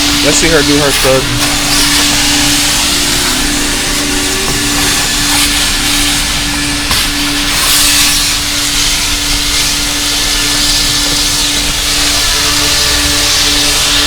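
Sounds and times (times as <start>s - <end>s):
air hissing through hose: 0.0s - 14.0s
vacuum motor hum: 0.0s - 14.0s.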